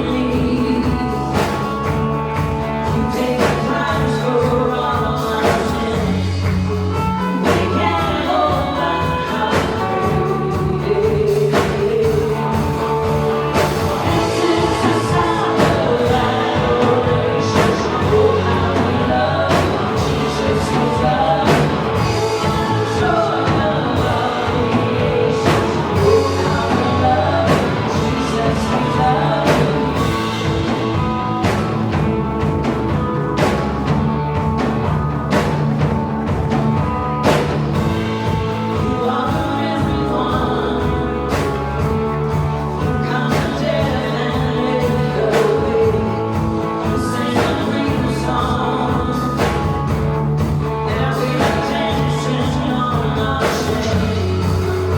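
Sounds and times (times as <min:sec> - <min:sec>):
person singing: 0:00.0 - 0:33.6, 0:37.2 - 0:54.9
rock band playing live: 0:00.0 - 0:54.9.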